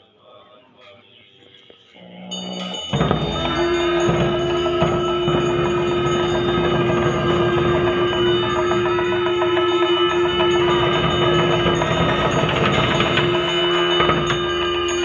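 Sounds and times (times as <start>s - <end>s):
conch shell long note: 2.0s - 15.0s
metal percussion struck rapidly: 2.0s - 15.0s
frame drum beats: 2.3s - 15.0s.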